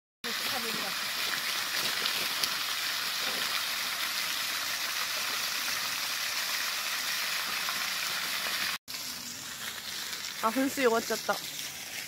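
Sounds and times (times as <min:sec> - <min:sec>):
fountain water splashing: 0:00.2 - 0:12.0.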